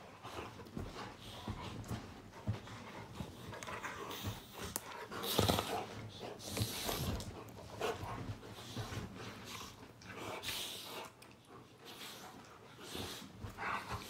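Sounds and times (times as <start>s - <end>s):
dogs play-fighting: 0.0s - 14.0s
dog breathing: 0.2s - 14.0s.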